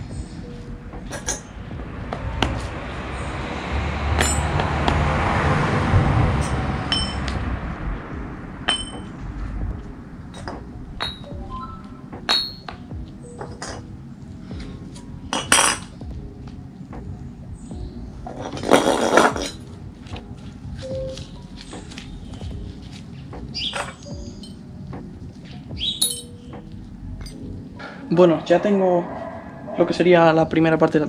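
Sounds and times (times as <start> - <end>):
steady rushing noise: 0.0 - 25.8.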